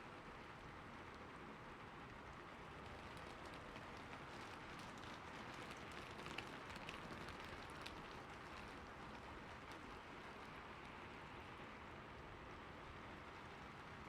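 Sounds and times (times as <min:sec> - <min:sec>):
soft rain falling: 0:00.0 - 0:14.0.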